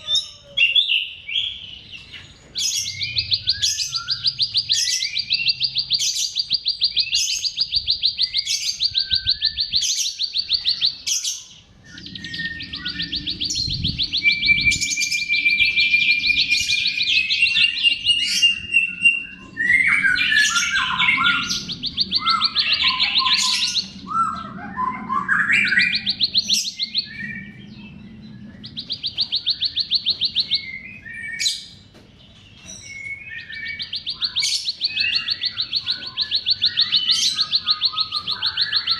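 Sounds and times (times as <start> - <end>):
bird singing buzzy trills: 0.0 - 38.9.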